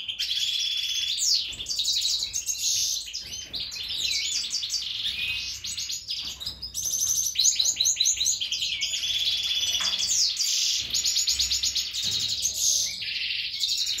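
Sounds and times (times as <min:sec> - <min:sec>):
goldfinch twittering song: 0:00.0 - 0:14.0.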